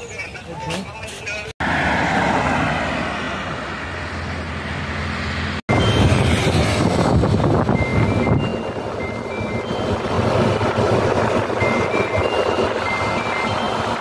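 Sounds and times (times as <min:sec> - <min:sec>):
tractor engine droning: 0:01.6 - 0:14.0.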